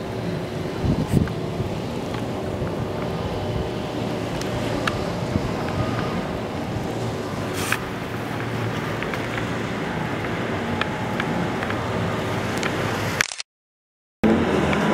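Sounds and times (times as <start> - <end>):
boat engine running: 0.0 - 13.2
wind buffeting microphone: 0.0 - 13.2.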